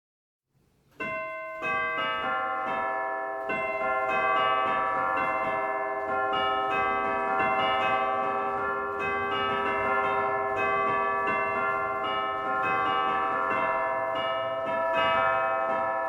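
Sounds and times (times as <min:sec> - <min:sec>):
church bells pealing: 0:01.0 - 0:16.0.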